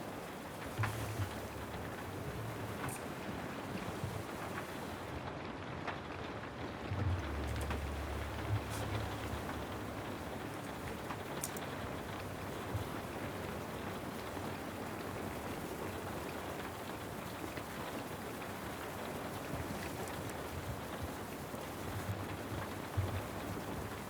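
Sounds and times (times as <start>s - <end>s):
faint ticks: 0.0s - 5.1s, 6.8s - 24.0s
rain hissing: 0.0s - 5.2s, 6.4s - 24.0s.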